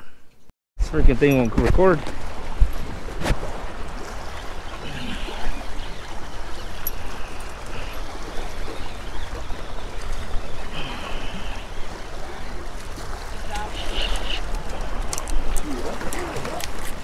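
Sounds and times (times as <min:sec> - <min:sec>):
wind rumble on microphone: 0:00.8 - 0:17.0
waves lapping against rocks: 0:00.9 - 0:17.0.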